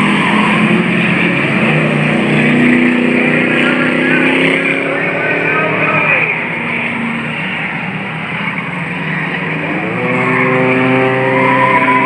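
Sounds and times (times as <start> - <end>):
engine revving up: 0.0 - 7.9, 8.7 - 12.0
race car engines running hard: 0.0 - 12.0.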